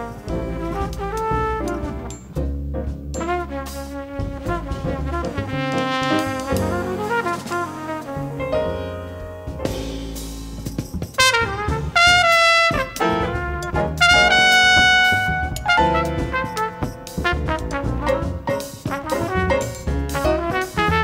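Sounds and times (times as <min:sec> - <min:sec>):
jazz trumpet solo: 0:00.0 - 0:02.5, 0:03.2 - 0:10.0, 0:11.2 - 0:21.0
double bass: 0:00.0 - 0:21.0
drums: 0:00.0 - 0:21.0
piano: 0:00.0 - 0:21.0.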